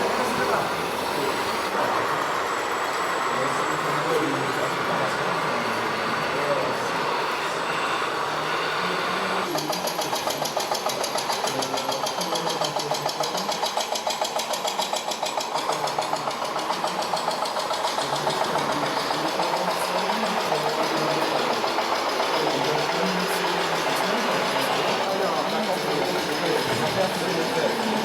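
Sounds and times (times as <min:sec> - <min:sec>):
model vehicle engine pulsing: 0:00.0 - 0:28.0.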